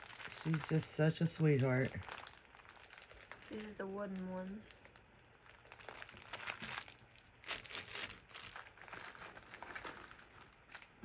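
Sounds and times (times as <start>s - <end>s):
plastic bags crinkling and rustling: 0.0s - 11.0s.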